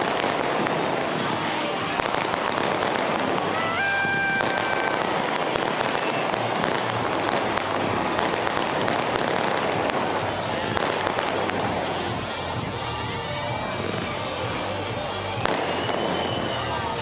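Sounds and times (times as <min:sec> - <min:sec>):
fireworks crackling and banging: 0:00.0 - 0:12.7, 0:13.6 - 0:17.0.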